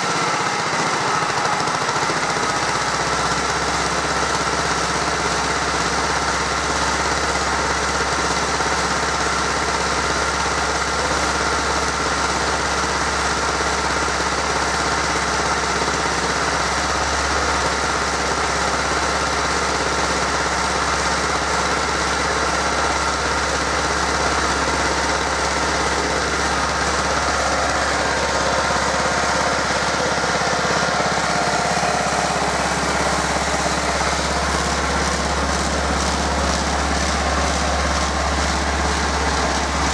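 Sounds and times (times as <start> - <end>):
roller engine running steadily: 0.0 - 39.9.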